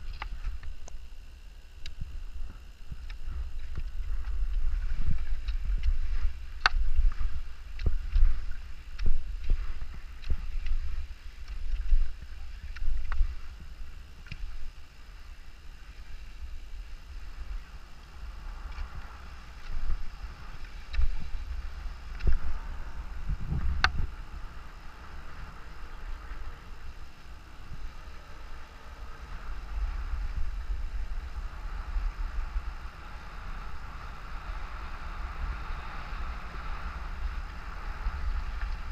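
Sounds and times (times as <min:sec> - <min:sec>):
wind rumbling on microphone: 0:00.0 - 0:38.9
skis sliding over snow: 0:02.0 - 0:38.9.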